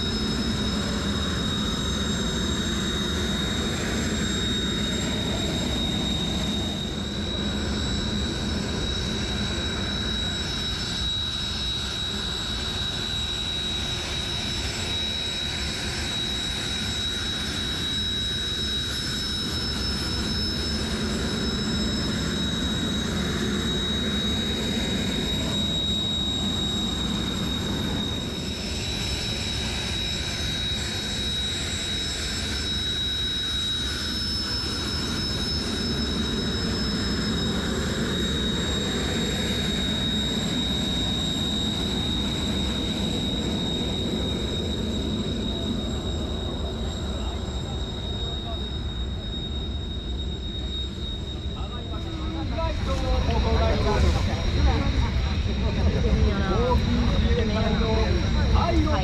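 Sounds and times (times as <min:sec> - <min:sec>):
jet engine roar and whine: 0:00.0 - 0:59.0.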